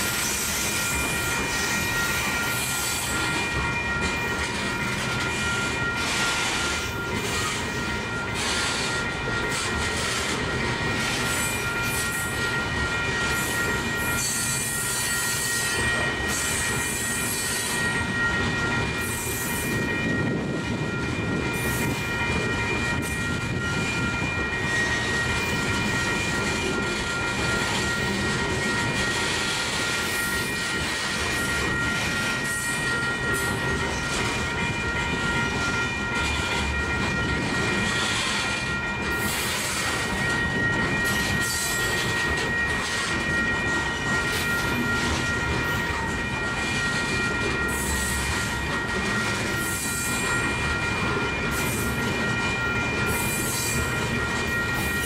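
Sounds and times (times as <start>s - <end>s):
high-pitched ringing tone: 0.0s - 55.0s
train wheels rumbling on rail: 0.0s - 55.0s.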